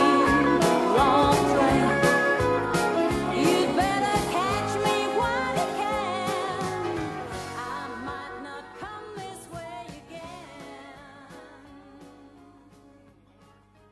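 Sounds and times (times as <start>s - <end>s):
country song with singing: 0.0s - 13.2s.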